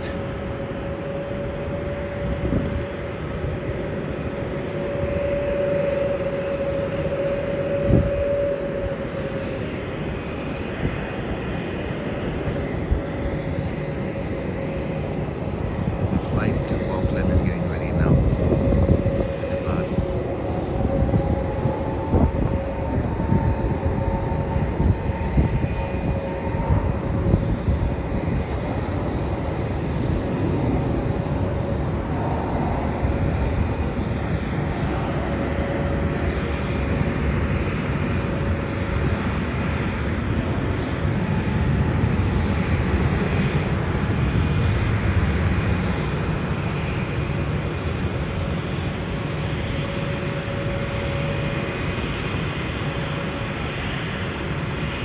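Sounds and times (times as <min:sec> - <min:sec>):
jet engines whining rumble: 0:00.0 - 0:55.0
wind buffeting microphone: 0:00.0 - 0:55.0.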